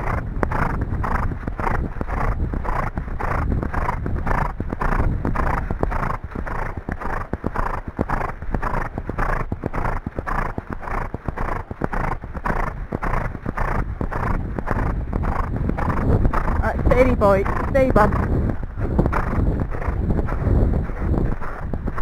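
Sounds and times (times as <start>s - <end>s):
horse breathing: 0.0s - 22.0s
horse hoofbeats on sand: 0.0s - 22.0s.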